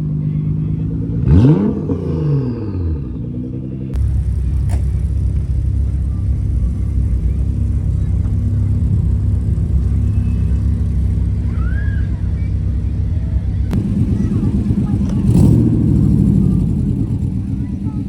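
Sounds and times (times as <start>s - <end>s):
car engine idling: 3.0s - 18.0s.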